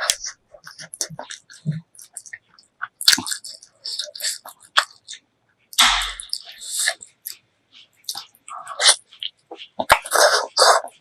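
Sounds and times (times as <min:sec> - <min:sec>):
wet chewing and mouth smacks: 0:00.0 - 0:11.0.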